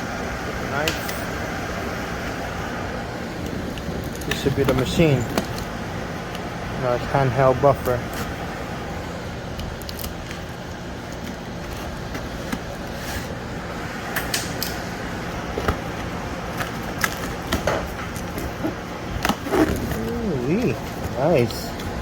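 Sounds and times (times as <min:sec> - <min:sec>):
air conditioner hum: 0:00.0 - 0:22.0.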